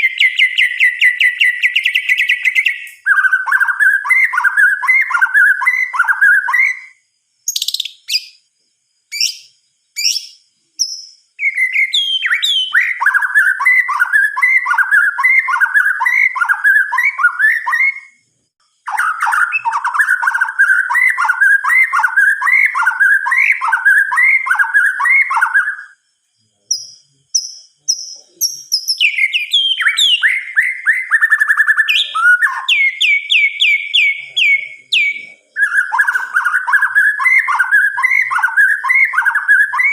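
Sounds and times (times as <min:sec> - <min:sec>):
songbird singing rolling phrases: 0:00.0 - 0:39.9.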